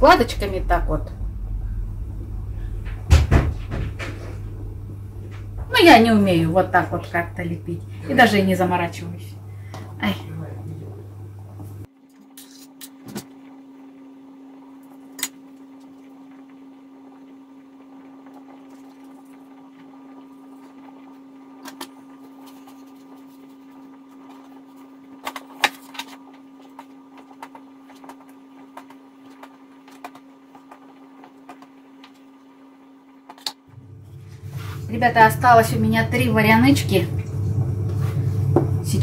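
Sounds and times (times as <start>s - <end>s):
steady low hum: 0.0s - 11.9s, 13.3s - 39.0s.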